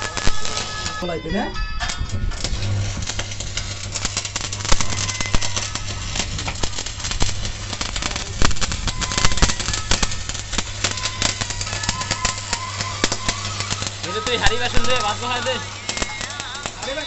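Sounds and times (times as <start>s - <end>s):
low hum: 0.0s - 16.9s
welding arc crackling: 0.0s - 17.0s.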